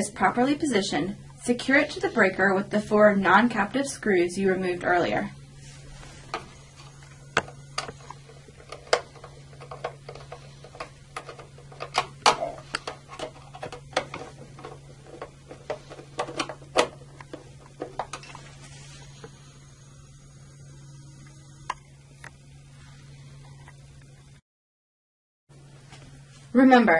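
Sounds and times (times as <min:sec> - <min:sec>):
steady low hum: 0:00.0 - 0:24.4, 0:25.5 - 0:26.9.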